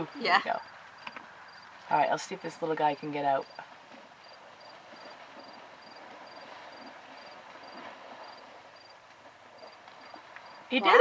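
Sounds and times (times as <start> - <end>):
insect chirping: 0.0 - 2.5, 3.4 - 9.0, 9.6 - 11.0
faint outdoor background noise: 0.0 - 11.0.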